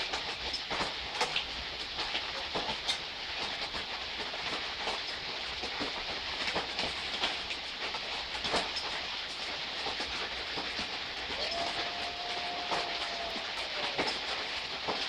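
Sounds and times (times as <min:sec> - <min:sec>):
raindrops striking close by: 0:00.0 - 0:15.0
soft steady rain: 0:00.0 - 0:15.0.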